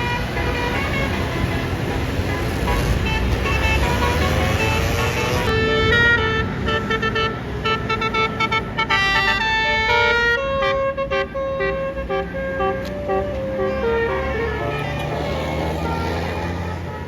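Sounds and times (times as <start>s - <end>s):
multi-note bus horn tune: 0.0s - 17.0s
vehicle rumble: 0.0s - 17.0s.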